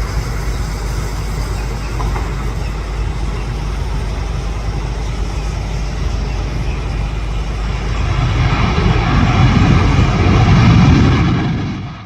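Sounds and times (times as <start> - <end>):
aircraft engine rumble: 0.0 - 12.0.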